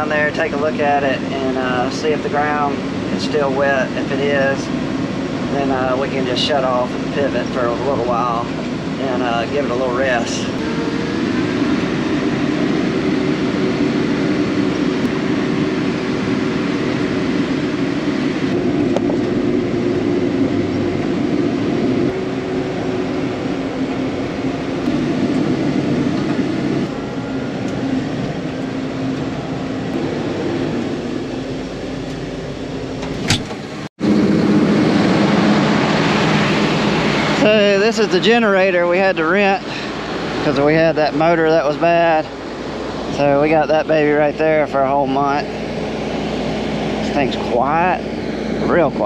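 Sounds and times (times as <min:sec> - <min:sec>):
steady hum: 0:00.0 - 0:49.0
vehicle engine and road noise: 0:00.0 - 0:49.0.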